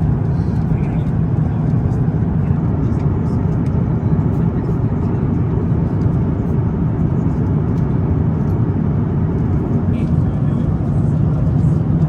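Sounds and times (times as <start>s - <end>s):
aircraft cabin engine rumble: 0.0s - 12.0s
airflow over fuselage: 0.0s - 12.0s.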